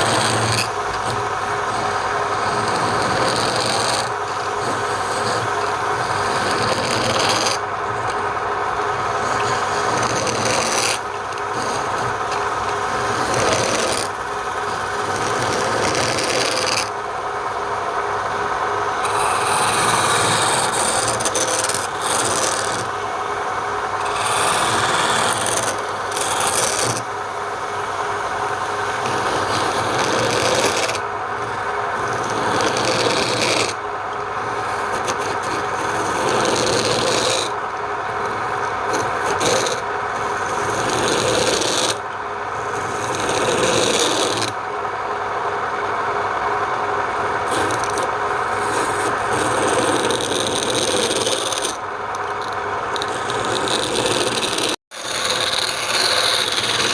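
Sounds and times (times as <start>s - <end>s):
rasp rubbing wood on lathe: 0.0s - 33.8s, 34.4s - 37.6s, 38.2s - 42.0s, 42.6s - 44.6s, 47.5s - 56.9s.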